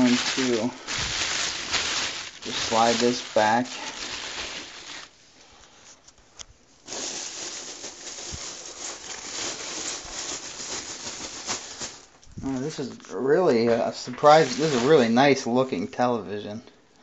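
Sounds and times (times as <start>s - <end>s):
plastic bag crinkling: 0.0s - 12.8s, 14.1s - 15.1s.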